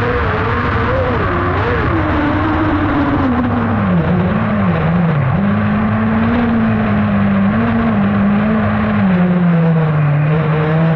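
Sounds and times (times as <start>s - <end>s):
buggy engine revving: 0.0s - 10.9s.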